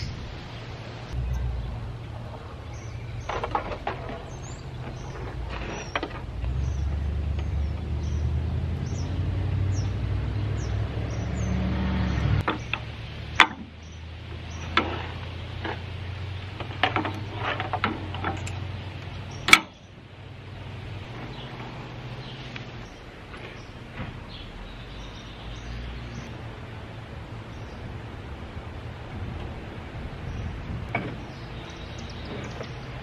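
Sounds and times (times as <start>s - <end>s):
low handling rumble: 0.0s - 33.0s.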